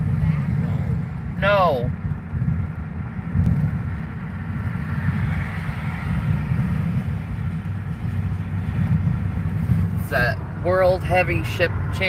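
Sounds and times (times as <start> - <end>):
car tyres and engine rumble: 0.0 - 12.0.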